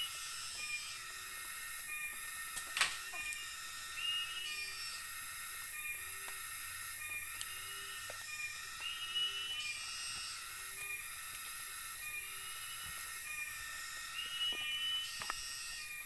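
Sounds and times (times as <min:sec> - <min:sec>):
insects buzzing and trilling: 0:00.0 - 0:16.0.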